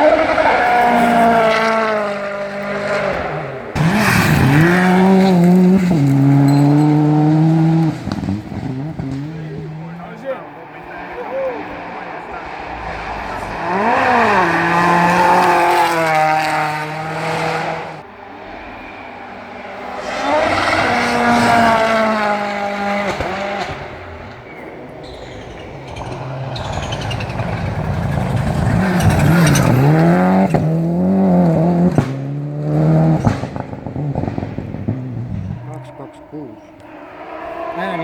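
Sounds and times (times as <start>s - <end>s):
exhaust bangs: 0.0s - 38.0s
rally car engines revving: 0.0s - 38.0s.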